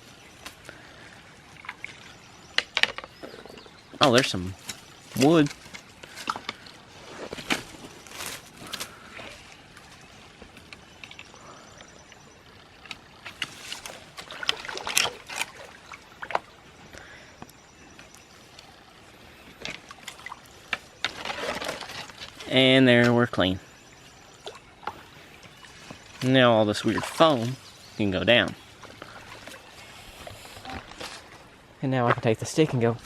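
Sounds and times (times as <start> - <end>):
creek water splashing: 0.0 - 33.0.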